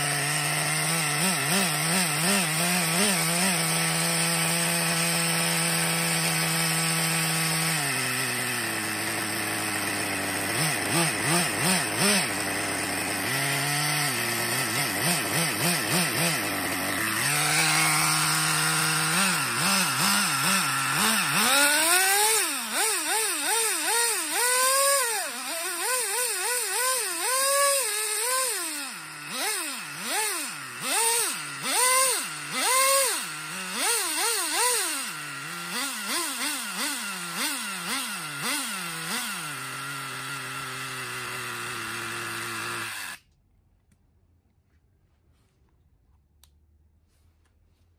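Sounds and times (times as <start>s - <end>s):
small model engine revving: 0.0s - 43.2s.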